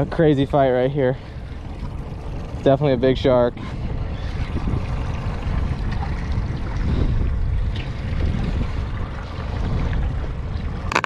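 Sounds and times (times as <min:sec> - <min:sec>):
water against small boat: 0:00.0 - 0:11.0
wind buffeting microphone: 0:00.0 - 0:11.0.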